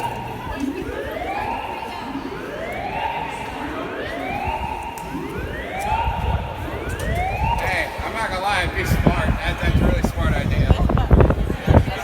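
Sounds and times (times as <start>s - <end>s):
fire alarm rising whoop: 0.0s - 9.8s.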